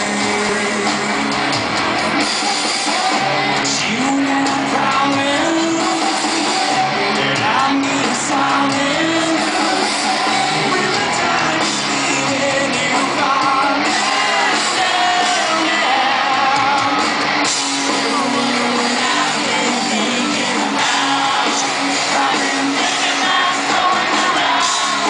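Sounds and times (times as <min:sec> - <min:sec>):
audience singing along: 0:00.0 - 0:25.0
rock band playing live: 0:00.0 - 0:25.0.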